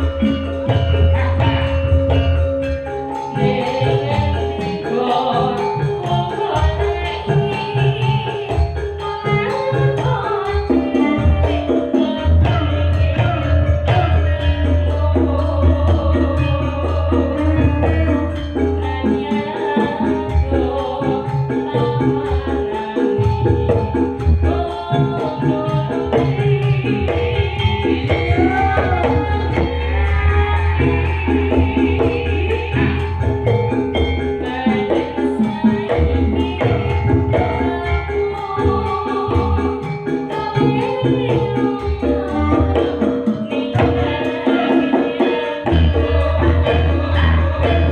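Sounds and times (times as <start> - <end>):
gamelan ensemble music: 0.0 - 47.9
steady drumming: 0.0 - 47.9
person singing: 3.3 - 47.9.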